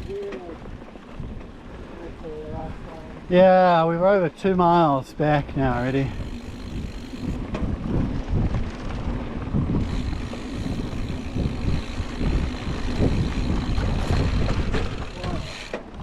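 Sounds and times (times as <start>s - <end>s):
bike tyres rumbling on dirt: 0.0s - 3.8s, 5.3s - 16.0s
wind buffeting microphone: 0.0s - 16.0s.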